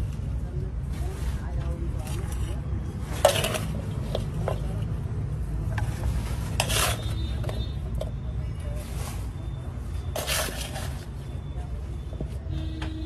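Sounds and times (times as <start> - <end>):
rustling and scraping in steel basin: 0.0 - 12.5.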